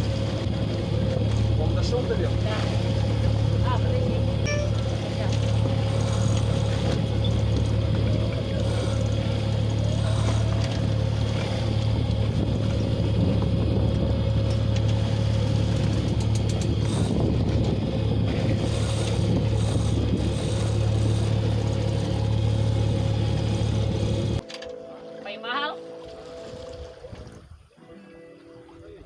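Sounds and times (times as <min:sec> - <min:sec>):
boat engine humming: 0:00.0 - 0:29.0
water noise: 0:00.0 - 0:29.0
wind: 0:00.0 - 0:29.0.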